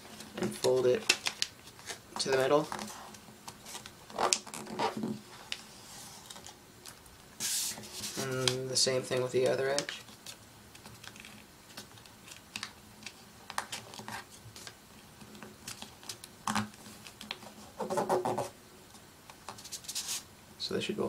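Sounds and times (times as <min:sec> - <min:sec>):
paper rustling and creasing: 0:00.0 - 0:18.5.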